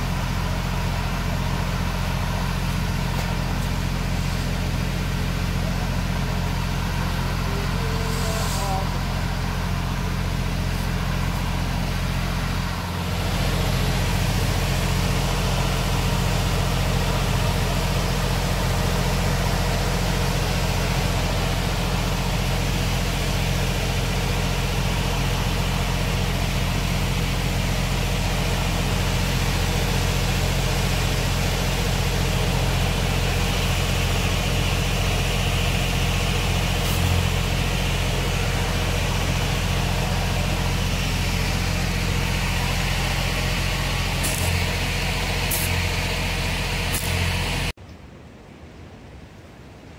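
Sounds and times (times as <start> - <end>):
heavy machine engine idling: 0.0 - 47.8.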